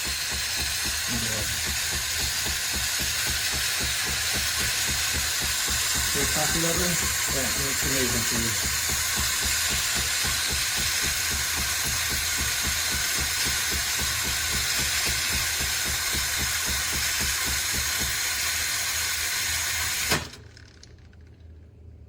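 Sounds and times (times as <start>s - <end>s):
steam hissing: 0.0s - 20.4s
pump pulsing: 0.0s - 20.8s.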